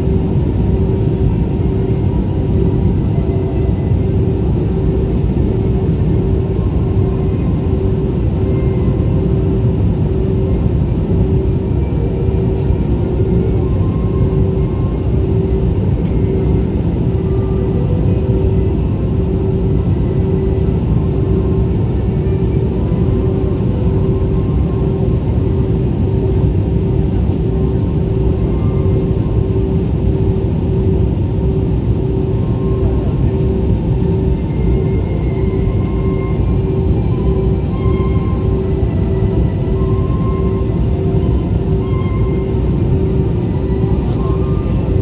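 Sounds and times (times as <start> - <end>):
airliner engine and airflow rumble: 0.0 - 45.0
steady cabin hum: 0.0 - 45.0.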